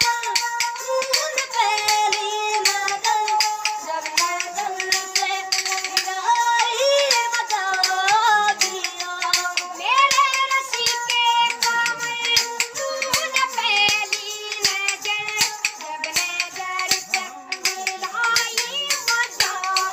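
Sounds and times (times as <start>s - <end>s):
bowed stick fiddle: 0.0s - 19.9s
child singing: 0.0s - 19.9s.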